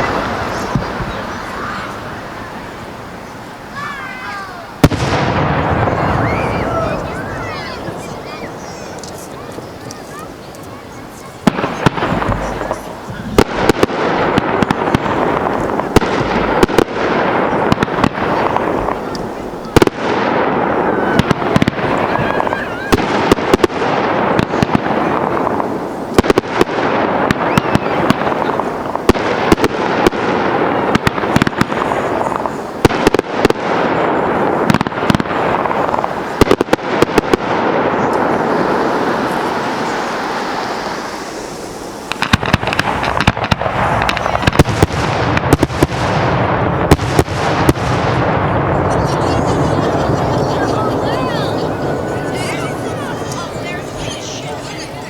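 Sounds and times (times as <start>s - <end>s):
fireworks crackle and rumble: 0.0s - 55.0s
fireworks shells bursting: 4.7s - 55.0s.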